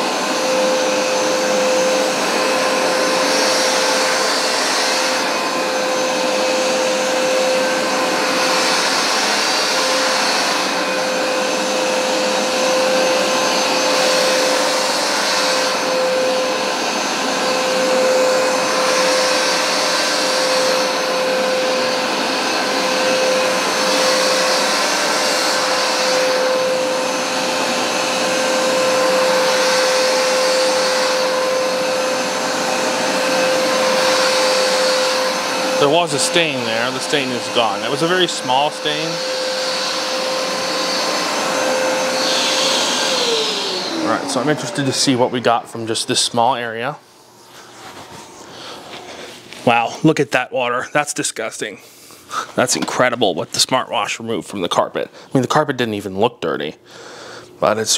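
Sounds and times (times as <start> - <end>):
carpet cleaner motor hum: 0.0 - 50.0.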